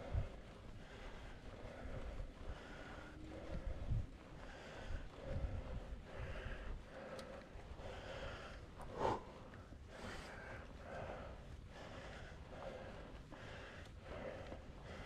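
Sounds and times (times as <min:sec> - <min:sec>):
heavy rhythmic breathing: 0:00.0 - 0:15.0.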